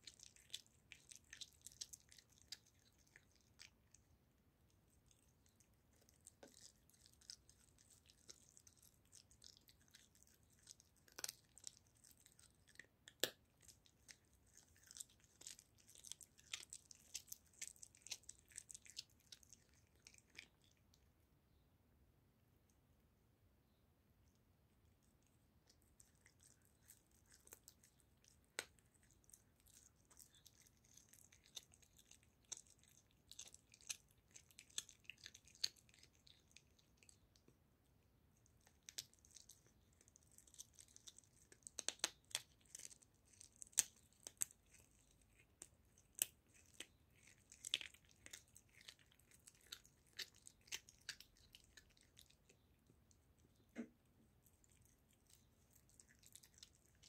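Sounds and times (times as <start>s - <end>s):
cat chewing raw meat and bone: 0.0s - 21.4s, 24.3s - 57.0s.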